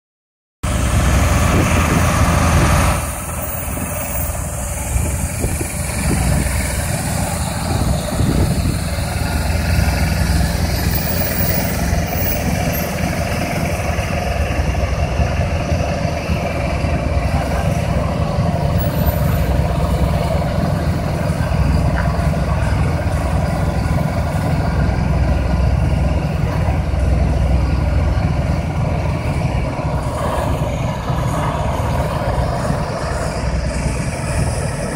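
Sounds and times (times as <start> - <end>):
diesel truck engines rumbling: 0.6 - 34.9.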